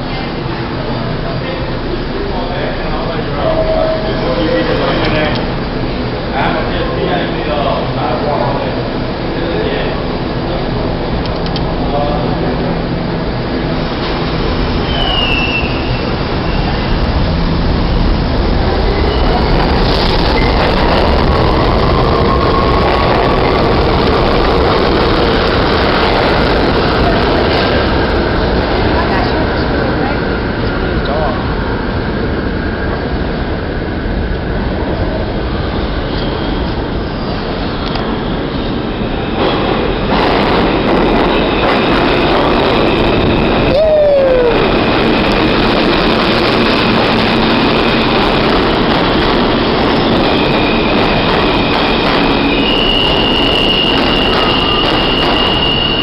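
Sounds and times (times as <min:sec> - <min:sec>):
subway train rumble: 0:00.0 - 0:56.0.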